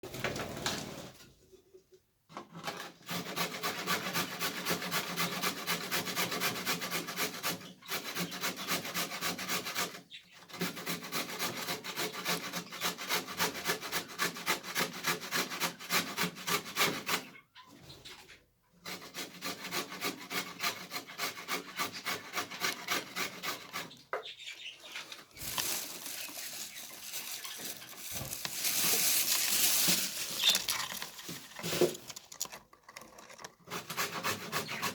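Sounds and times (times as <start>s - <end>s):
beak scraping on wood: 2.7s - 34.9s.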